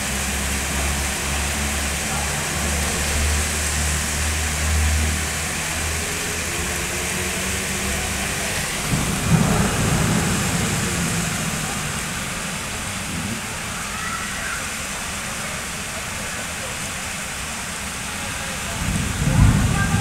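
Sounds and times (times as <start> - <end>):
thunder rumble: 0.0 - 15.9, 18.0 - 20.0
rain hissing on street: 0.0 - 20.0.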